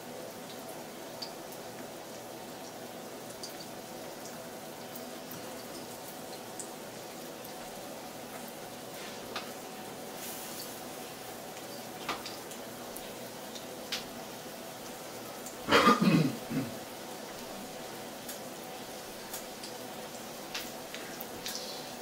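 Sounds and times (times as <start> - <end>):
chicken frying in oil: 0.0 - 22.0.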